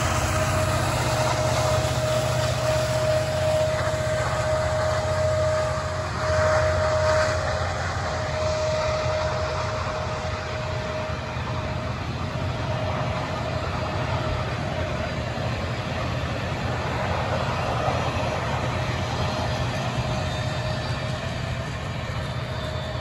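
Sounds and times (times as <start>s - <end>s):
steel wheels rumbling on rail: 0.0s - 23.0s.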